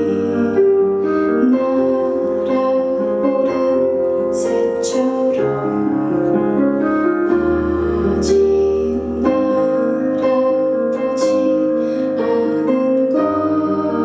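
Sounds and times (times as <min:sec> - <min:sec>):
piano-led pop ballad: 0:00.0 - 0:14.0.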